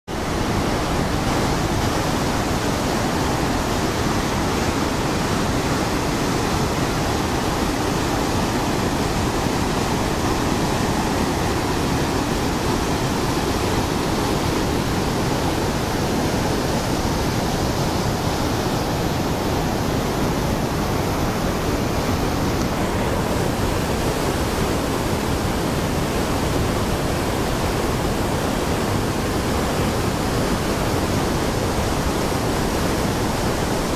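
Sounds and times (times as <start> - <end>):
river rushing over boulders: 0.1 - 33.9.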